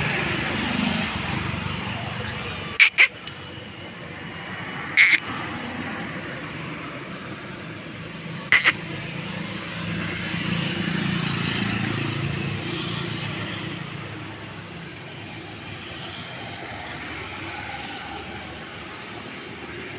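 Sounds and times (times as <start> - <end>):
traffic hum: 0.0 - 19.9.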